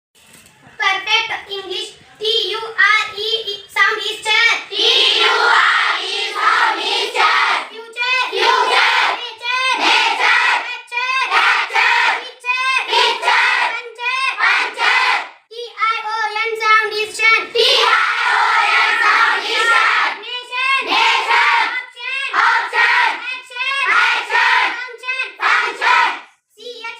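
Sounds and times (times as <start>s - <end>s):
child chanting syllables: 1.2s - 26.9s.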